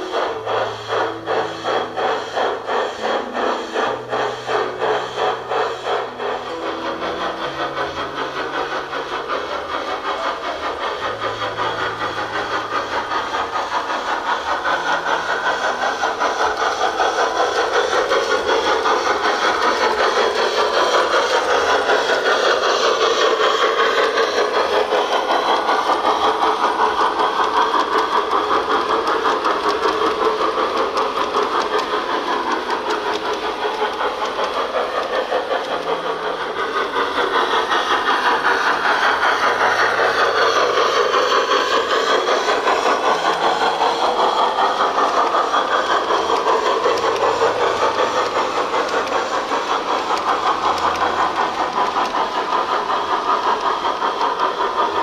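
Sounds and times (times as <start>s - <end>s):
model train rattling on track: 0.0s - 55.0s.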